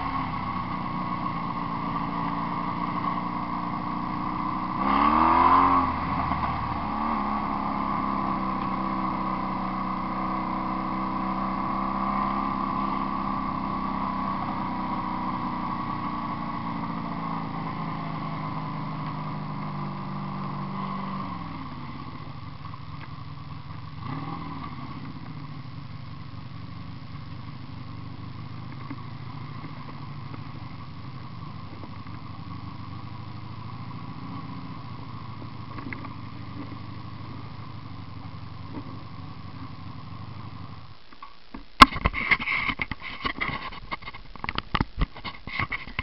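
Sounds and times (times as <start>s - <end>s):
motorcycle engine idling: 0.0s - 41.1s.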